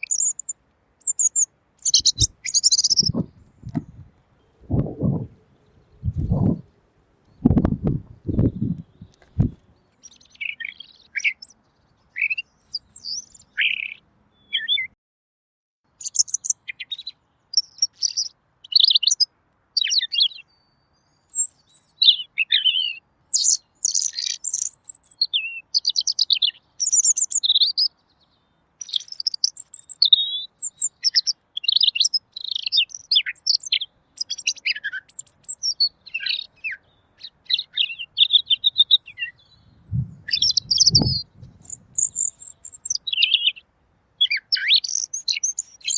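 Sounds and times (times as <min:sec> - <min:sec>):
bird singing warbling phrases: 0:00.0 - 0:15.0, 0:16.0 - 0:45.9.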